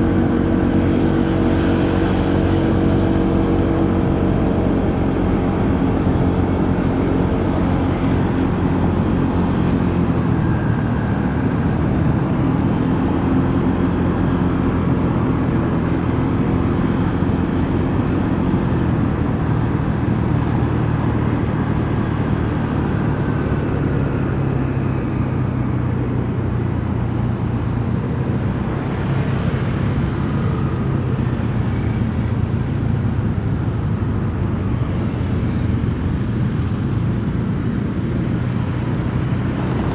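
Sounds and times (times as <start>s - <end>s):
city traffic noise: 0.0s - 39.9s
motorcycle engine running: 0.0s - 39.9s.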